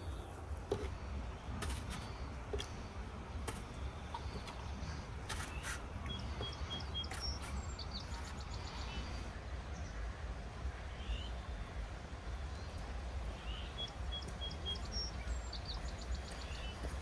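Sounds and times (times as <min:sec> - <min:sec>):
small birds chirping: 0:00.0 - 0:10.0, 0:10.9 - 0:17.0.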